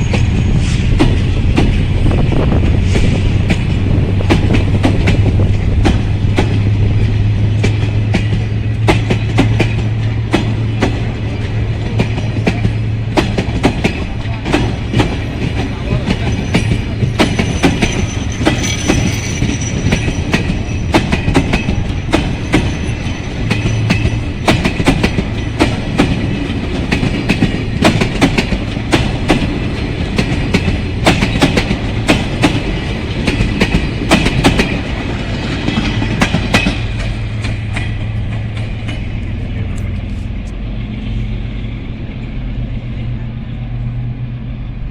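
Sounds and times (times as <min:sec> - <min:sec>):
train wheels clattering over joints: 0:00.0 - 0:40.4.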